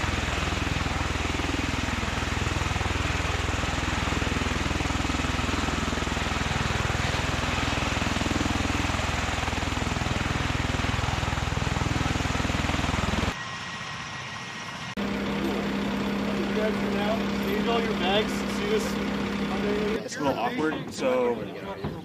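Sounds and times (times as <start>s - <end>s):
aircraft rotor and turbine noise: 0.0s - 20.5s.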